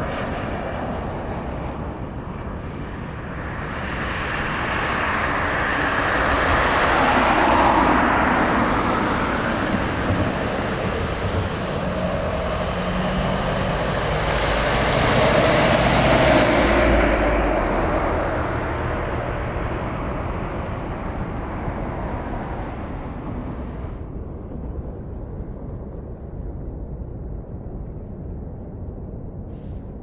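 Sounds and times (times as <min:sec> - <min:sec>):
jet engines passing: 0:00.0 - 0:30.0.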